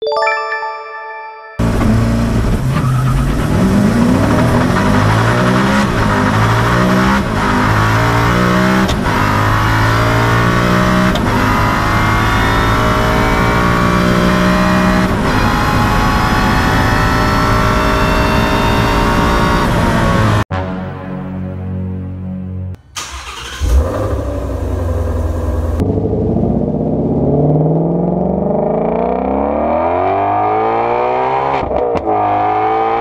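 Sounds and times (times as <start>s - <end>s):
car engine accelerating: 1.6s - 20.6s, 23.0s - 33.0s.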